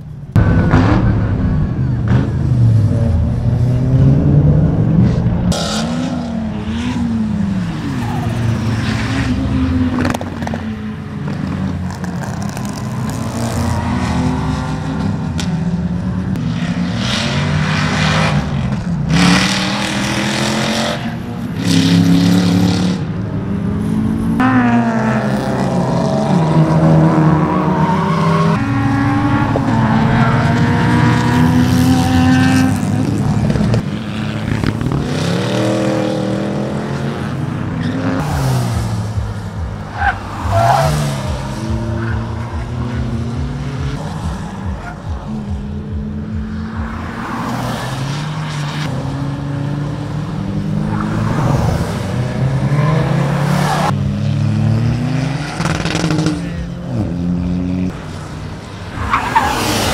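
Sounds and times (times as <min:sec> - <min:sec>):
race car engines revving past: 0:00.0 - 0:59.9.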